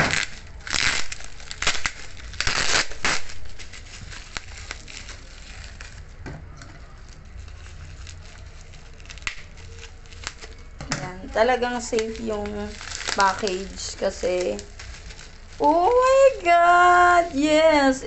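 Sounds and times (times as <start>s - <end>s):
bubble wrap crinkling: 0.0s - 18.0s.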